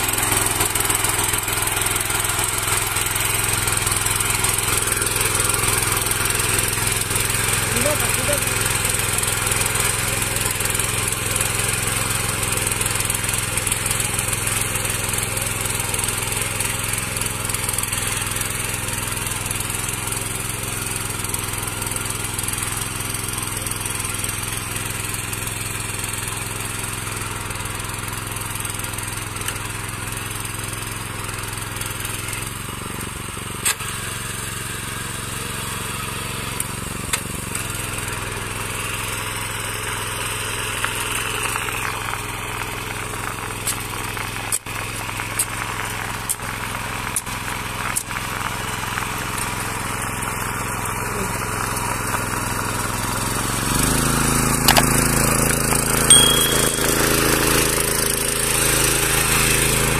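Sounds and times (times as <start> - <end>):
power weeder engine running: 0.0 - 59.9.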